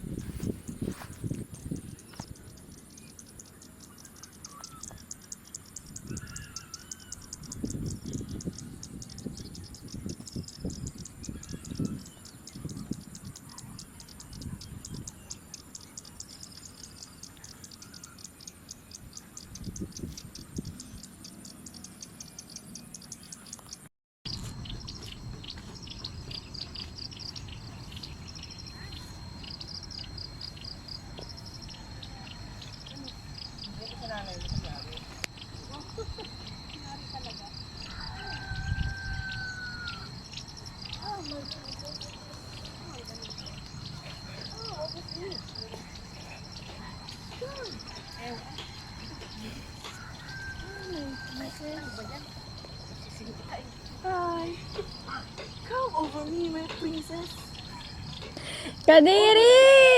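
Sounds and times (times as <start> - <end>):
high insect whine: 0.0 - 59.9
high-pitched insect pulsing: 0.0 - 59.9
bird chirps: 0.2 - 59.9.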